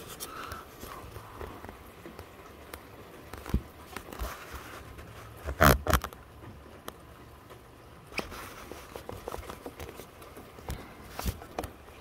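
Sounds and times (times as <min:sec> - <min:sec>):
steady rain on window: 0:00.0 - 0:12.0.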